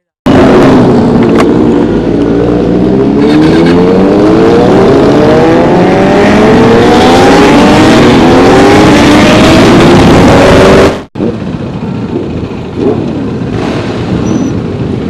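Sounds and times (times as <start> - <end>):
motorcycle engine accelerating: 0.3 - 15.0.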